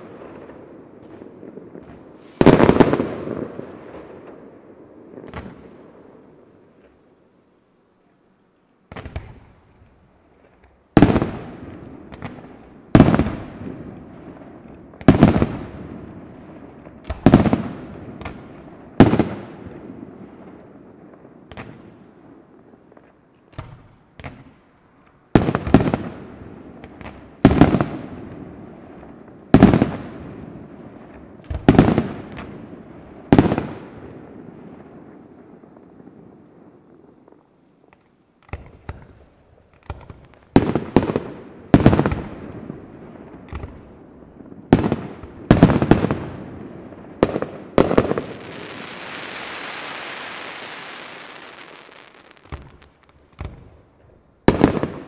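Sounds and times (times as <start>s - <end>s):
fireworks bangs with echoing rumble: 0.0s - 7.2s, 8.8s - 55.0s
quieter fireworks pops: 0.0s - 55.0s.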